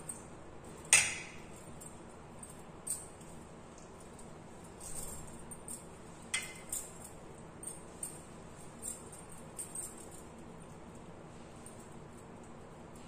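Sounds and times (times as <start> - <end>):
bangles clinking: 0.0 - 11.1.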